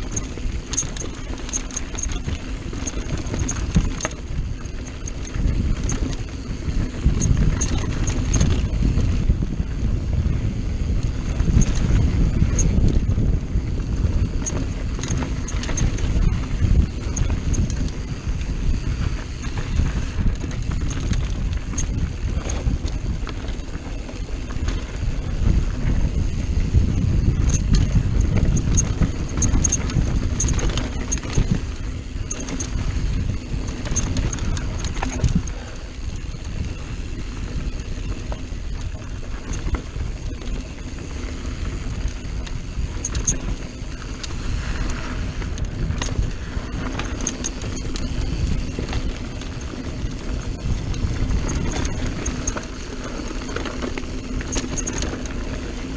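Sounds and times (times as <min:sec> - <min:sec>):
bicycle tyres rumbling on dirt: 0:00.0 - 0:55.9
bike rattles and clicks: 0:00.0 - 0:55.9
wind on microphone: 0:00.0 - 0:55.9.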